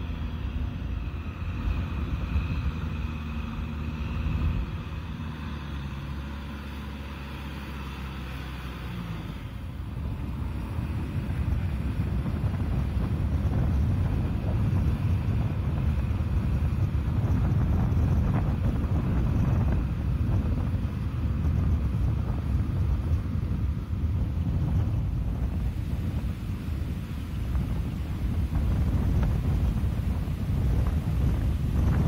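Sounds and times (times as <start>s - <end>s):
engine humming: 0.0s - 32.0s
tractor engine under load: 0.0s - 32.0s.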